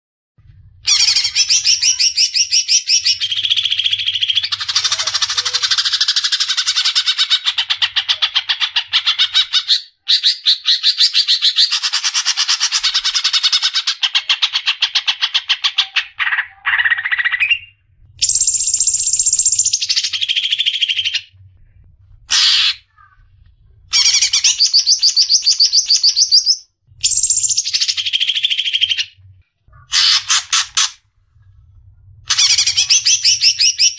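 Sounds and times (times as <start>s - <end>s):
bird chattering song: 0.9s - 21.3s, 23.9s - 31.0s, 32.3s - 33.9s.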